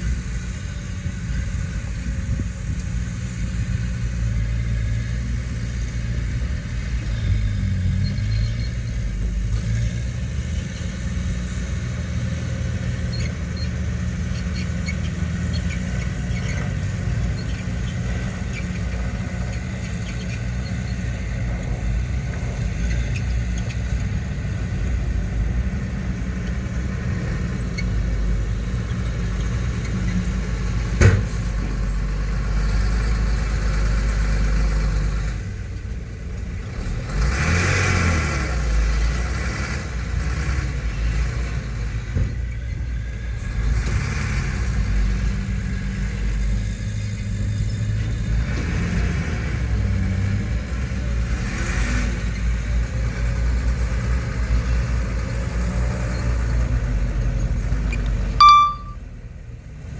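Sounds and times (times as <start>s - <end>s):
diesel earthmoving machinery running: 0.0s - 59.9s.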